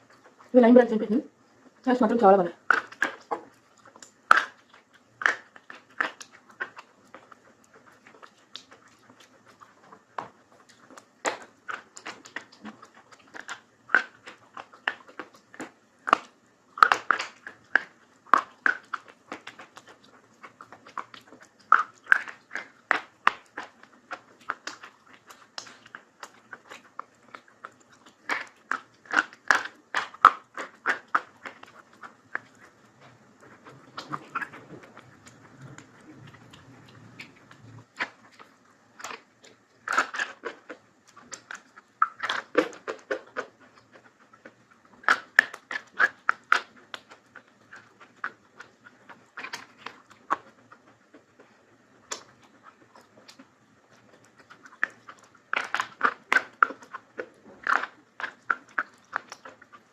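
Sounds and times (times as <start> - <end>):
crunchy food being chewed: 0.0 - 59.9.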